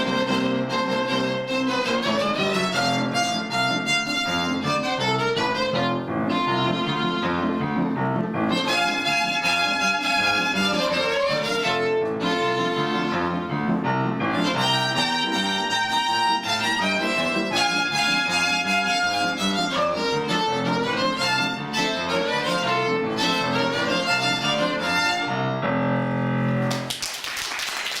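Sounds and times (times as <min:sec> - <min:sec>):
violin duet: 0:00.0 - 0:25.9
piano accompaniment: 0:00.0 - 0:28.0.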